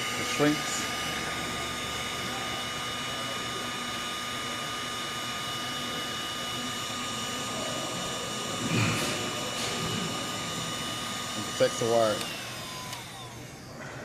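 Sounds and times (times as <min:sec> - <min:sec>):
hot-air blower fan whine: 0:00.0 - 0:14.0.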